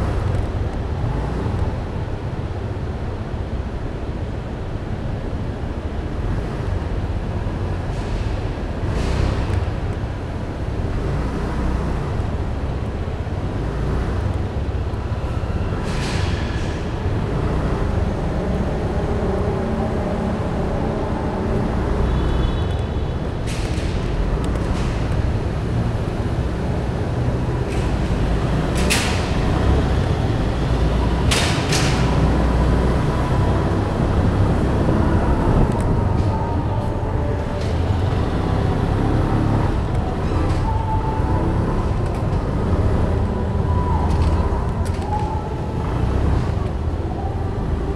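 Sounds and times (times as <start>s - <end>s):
traffic rumble: 0.0s - 47.9s.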